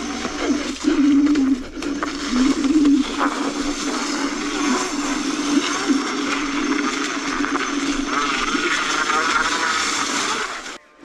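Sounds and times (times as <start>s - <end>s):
tyres rolling over leaves: 0.0s - 10.8s
electric scooter motor whine: 0.0s - 11.0s.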